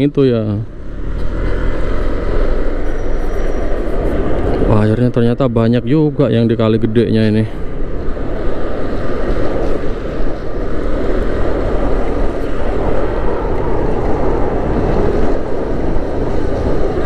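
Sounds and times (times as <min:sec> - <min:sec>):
wind noise on microphone: 0:00.6 - 0:17.0.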